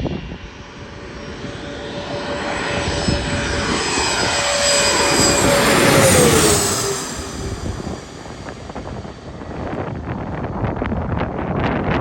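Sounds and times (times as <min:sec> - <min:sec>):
jet airliner engines passing: 0:00.0 - 0:12.0.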